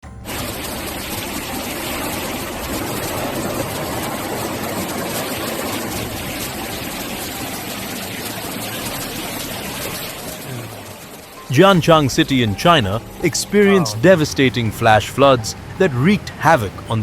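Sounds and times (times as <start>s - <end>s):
floodwater rushing: 0.1s - 17.0s.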